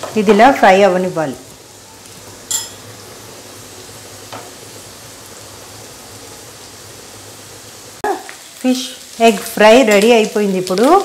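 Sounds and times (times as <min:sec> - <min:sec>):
fish roe sizzling in a frying pan: 0:00.0 - 0:11.0.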